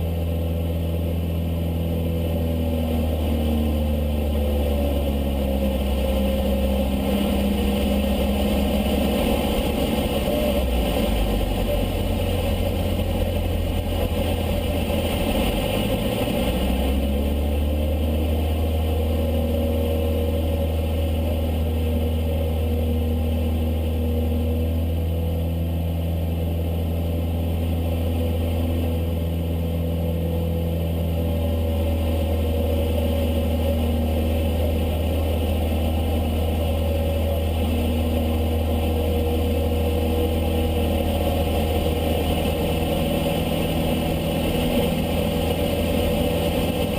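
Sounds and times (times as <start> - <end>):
light aircraft engine drone: 0.0 - 46.9.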